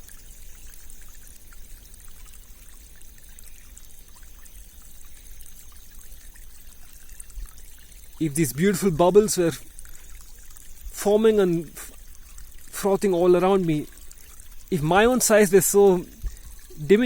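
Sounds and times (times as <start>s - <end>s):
stream trickling: 0.0s - 17.0s
tinkling water bubbles: 0.0s - 17.0s.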